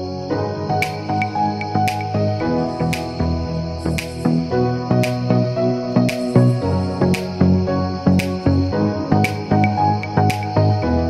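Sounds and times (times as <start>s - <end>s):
instrumental music with light beat: 0.0s - 11.0s.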